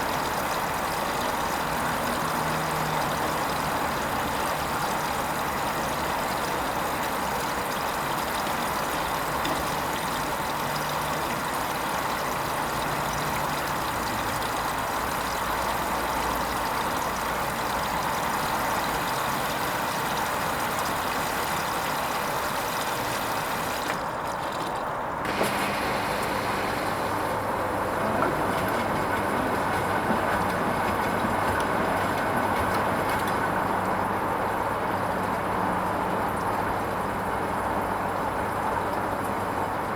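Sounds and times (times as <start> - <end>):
washing machine hiss: 0.0 - 34.9.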